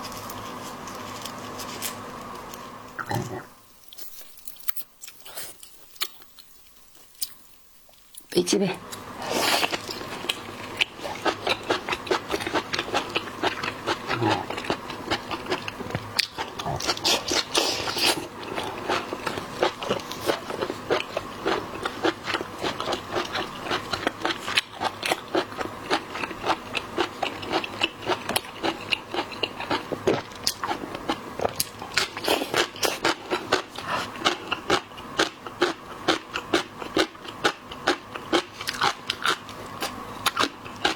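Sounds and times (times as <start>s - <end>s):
person chewing seafood: 0.0s - 8.3s, 8.9s - 40.9s.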